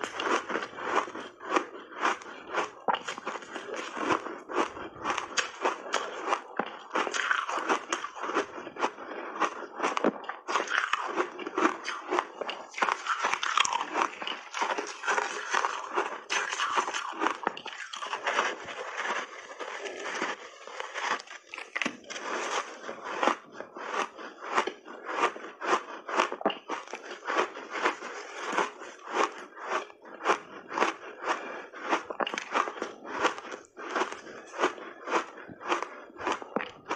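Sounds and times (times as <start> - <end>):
ice crunching between teeth: 0.0 - 36.9.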